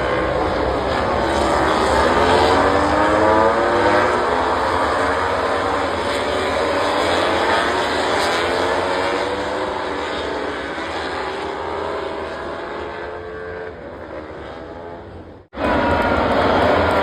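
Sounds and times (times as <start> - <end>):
race motorcycles passing: 0.0 - 17.0.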